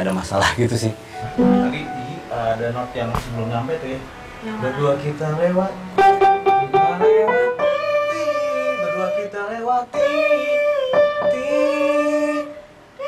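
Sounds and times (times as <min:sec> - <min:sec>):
piano accompaniment: 0:00.6 - 0:12.7.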